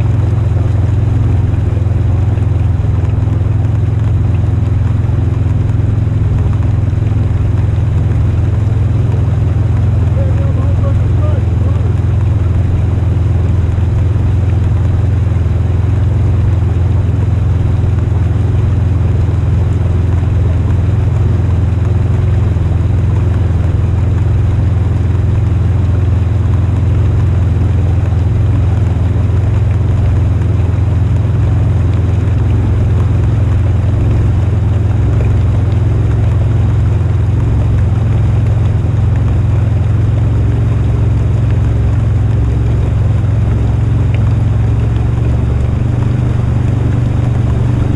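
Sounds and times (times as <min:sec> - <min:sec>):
vehicle engine rumbling: 0:00.0 - 0:47.9.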